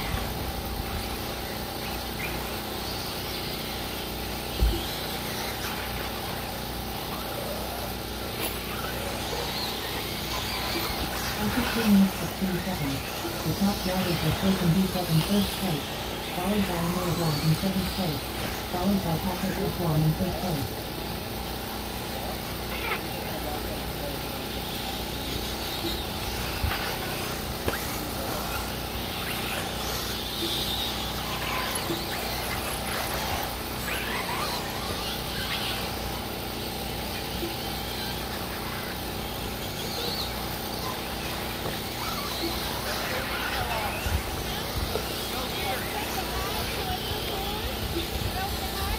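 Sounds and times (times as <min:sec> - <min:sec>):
faint motor whine and tyre noise: 0:00.0 - 0:48.9
outdoor noise: 0:00.0 - 0:48.9.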